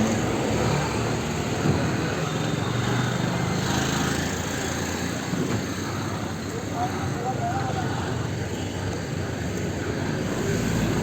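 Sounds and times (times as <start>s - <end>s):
hum of vehicles: 0.0s - 11.0s.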